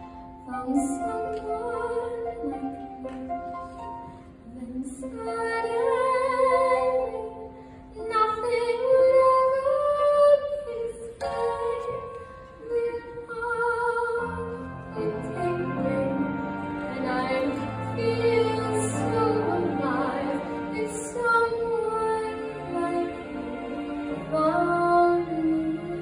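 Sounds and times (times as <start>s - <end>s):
instrumental accompaniment: 0.0s - 26.0s
woman singing into microphone: 0.5s - 3.3s, 4.5s - 26.0s.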